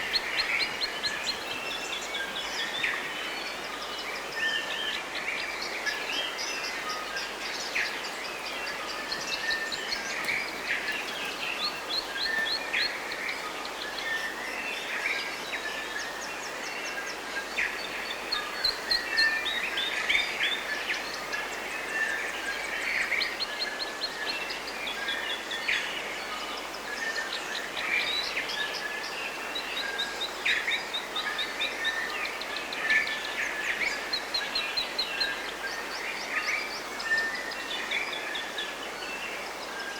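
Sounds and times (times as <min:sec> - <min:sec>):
forest birds chirping and singing: 0:00.0 - 0:39.9
steady background hiss: 0:00.0 - 0:39.9.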